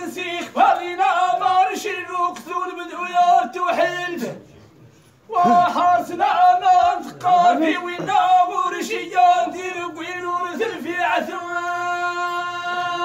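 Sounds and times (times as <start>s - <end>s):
man chanting: 0.0s - 4.4s, 5.3s - 13.0s.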